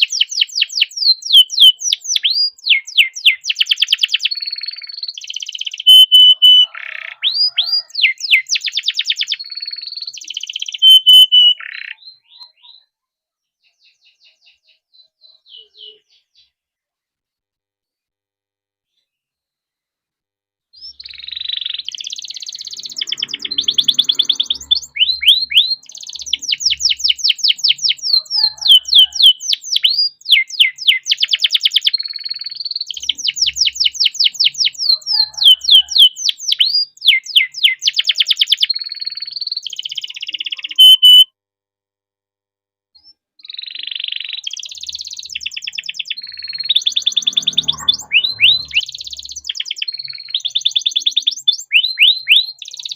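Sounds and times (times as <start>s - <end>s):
canary singing: 0.0s - 13.0s, 13.6s - 16.6s, 20.8s - 41.3s, 43.4s - 52.9s.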